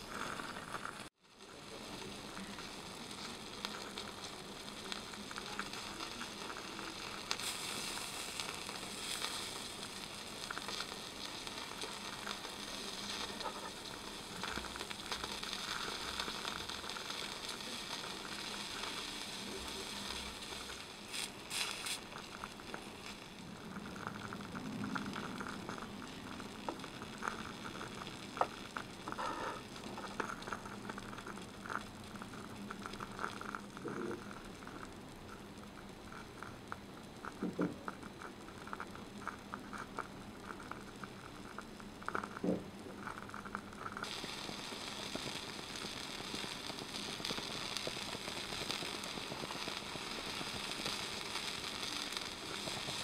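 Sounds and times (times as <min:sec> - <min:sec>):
broth simmering and bubbling: 0:00.0 - 0:53.0.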